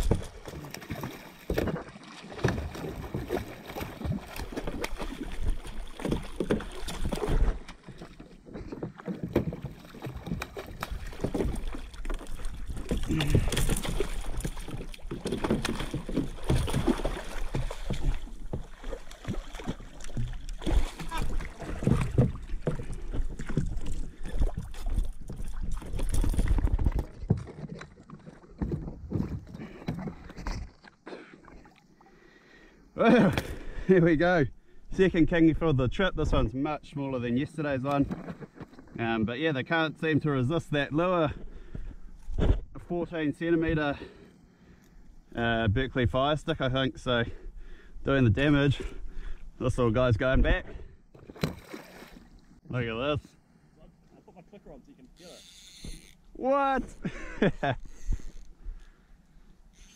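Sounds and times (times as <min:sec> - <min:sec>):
water splashing around kayak: 0:00.0 - 0:35.0, 0:37.3 - 0:59.9.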